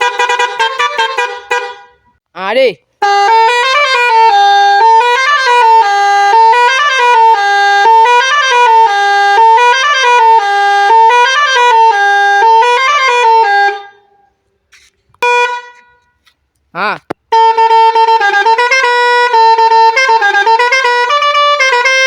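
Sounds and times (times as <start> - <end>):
musical bus horn melody: 0.0 - 2.2, 3.0 - 14.4, 15.2 - 16.3, 17.3 - 22.0.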